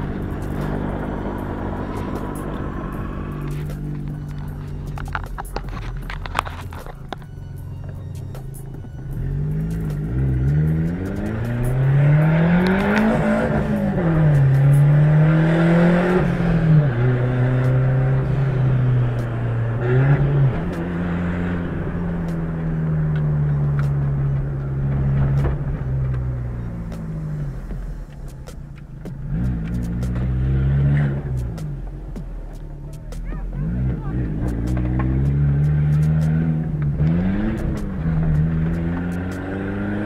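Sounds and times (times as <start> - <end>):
car engine revving while driving: 0.0 - 40.0.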